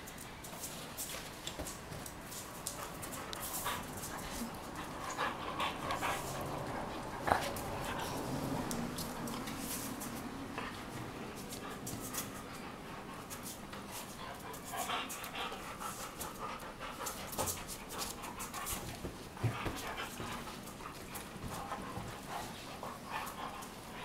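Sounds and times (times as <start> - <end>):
claws clicking on tiled floor: 0.0 - 10.3, 13.2 - 22.4
dogs scuffling: 0.0 - 24.0
dogs panting: 1.5 - 24.0.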